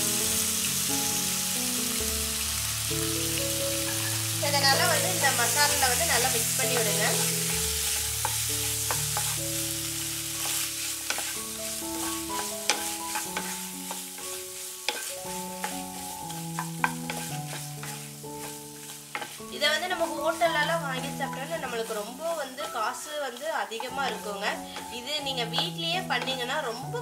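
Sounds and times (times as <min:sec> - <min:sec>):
food sizzling in a pan: 0:00.0 - 0:27.0
spatula scraping a pan: 0:03.8 - 0:27.0.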